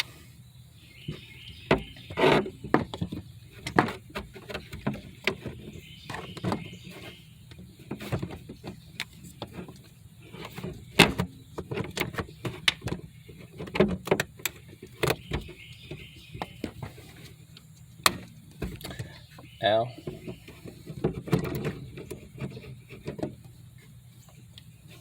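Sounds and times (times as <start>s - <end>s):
hand tools clicking and scraping: 1.1s - 25.0s.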